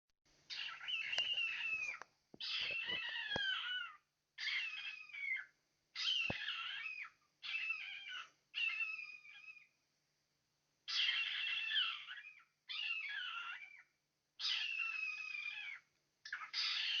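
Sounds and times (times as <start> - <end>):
cockatiel calling: 0.5 - 9.7, 10.9 - 17.0.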